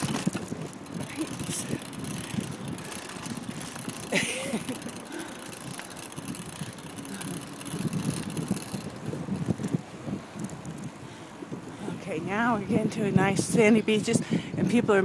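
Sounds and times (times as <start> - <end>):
bicycle tyre and frame noise: 0.0 - 14.5
wind rumble on microphone: 0.0 - 15.0.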